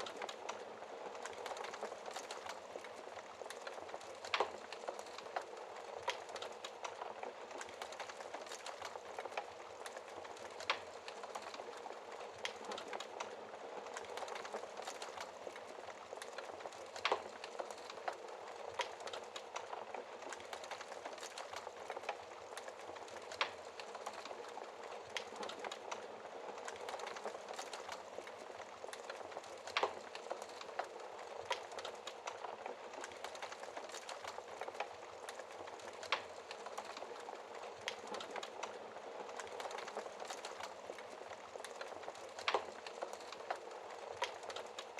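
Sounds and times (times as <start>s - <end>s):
fire popping and snapping: 0.0s - 44.9s
wood fire crackling: 0.0s - 44.9s.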